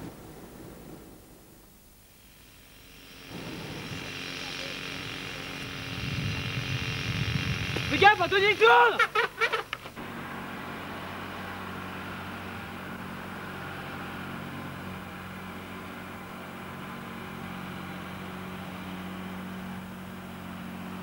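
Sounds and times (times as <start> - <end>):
heavy machinery engine hum: 2.2 - 8.8, 9.7 - 21.0.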